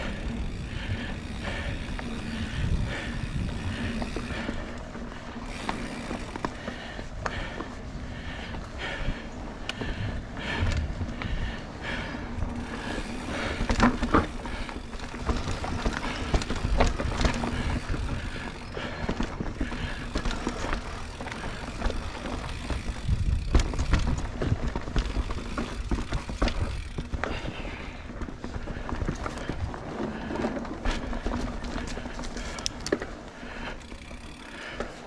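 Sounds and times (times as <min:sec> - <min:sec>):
bike tyres rolling on dirt: 0:00.0 - 0:35.0.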